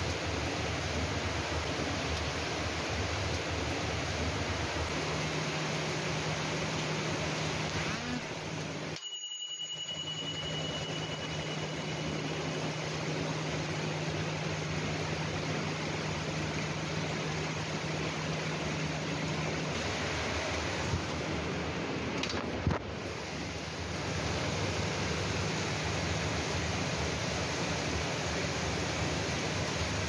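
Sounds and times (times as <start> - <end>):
heavy rain falling: 0.0 - 9.0, 10.5 - 30.0.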